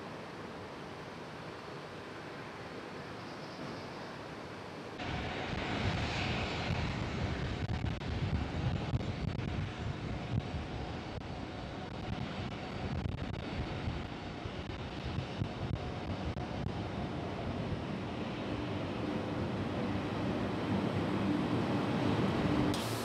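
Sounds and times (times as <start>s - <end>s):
jet engines roaring: 3.6s - 23.0s.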